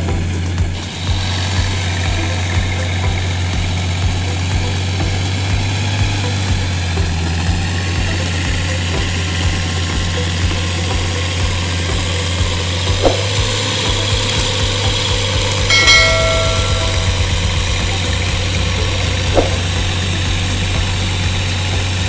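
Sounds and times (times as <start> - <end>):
low regular thudding: 0.0 - 22.0
tractor engine running: 0.0 - 22.0.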